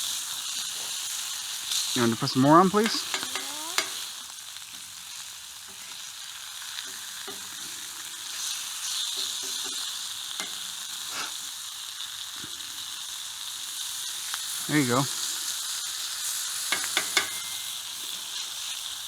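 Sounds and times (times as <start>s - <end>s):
bacon sizzling on a griddle: 0.0s - 19.0s.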